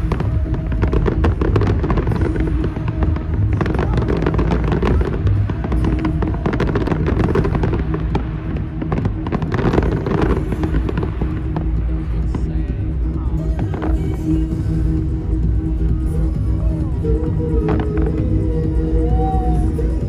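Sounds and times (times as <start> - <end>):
fireworks bursting and crackling: 0.0 - 20.0
loud music with heavy bass: 0.0 - 20.0.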